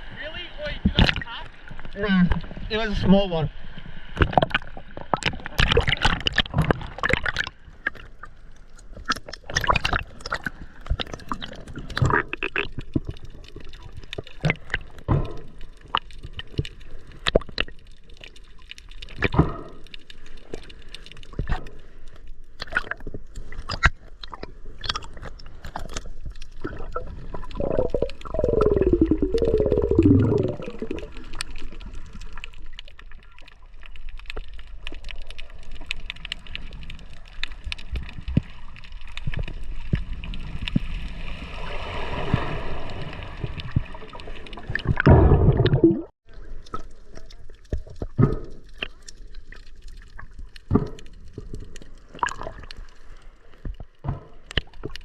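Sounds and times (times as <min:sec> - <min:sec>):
water gurgling and sloshing: 0:00.0 - 0:55.0.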